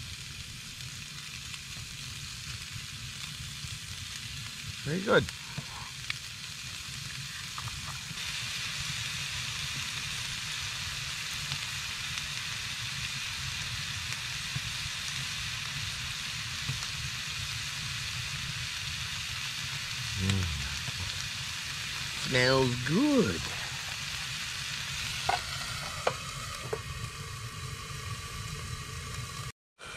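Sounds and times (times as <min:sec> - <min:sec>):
steaks sizzling in a skillet: 0:00.0 - 0:29.5.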